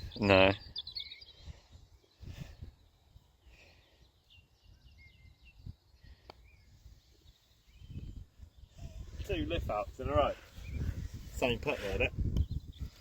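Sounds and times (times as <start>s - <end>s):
wind buffeting microphone: 0.0s - 3.1s, 4.6s - 13.0s
small birds chirping: 0.0s - 13.0s.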